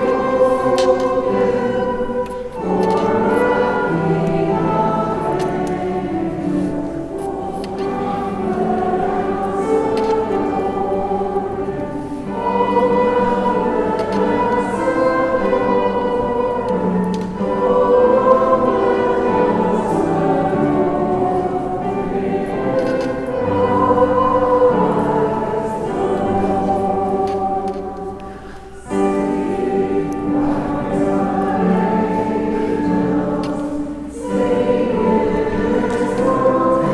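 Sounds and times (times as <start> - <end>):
church choir singing a hymn: 0.0 - 36.9.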